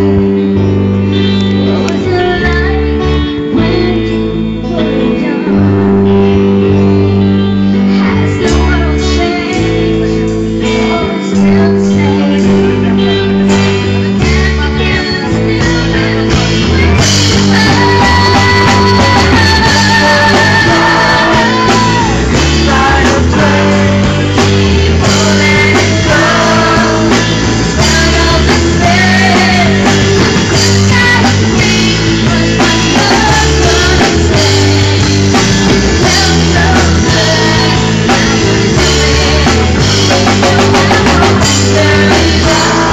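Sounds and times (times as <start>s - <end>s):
live band drums and guitar: 0.0s - 42.9s.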